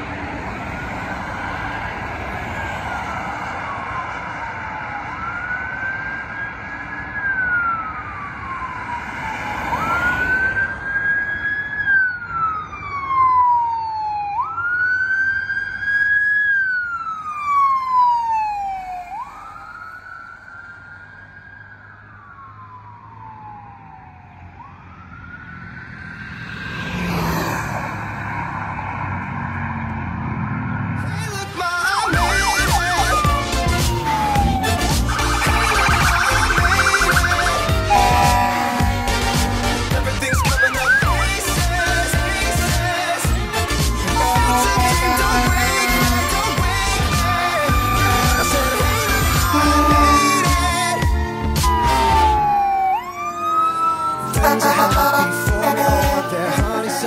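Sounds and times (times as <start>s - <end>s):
emergency siren wailing: 0.0s - 57.0s.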